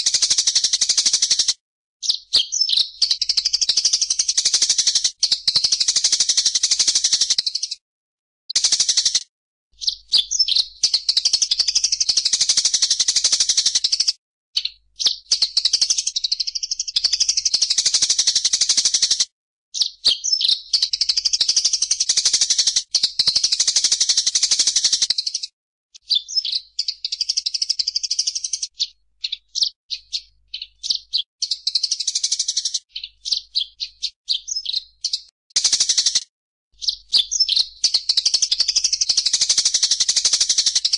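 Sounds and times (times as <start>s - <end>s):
songbird trilling and chirping: 2.0s - 7.8s, 9.8s - 18.8s, 19.8s - 36.2s, 36.8s - 40.9s.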